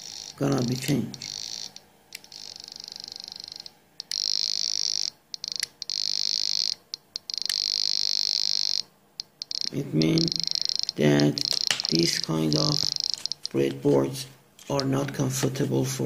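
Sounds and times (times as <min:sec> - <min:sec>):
high buzzing tone: 0:00.0 - 0:14.0.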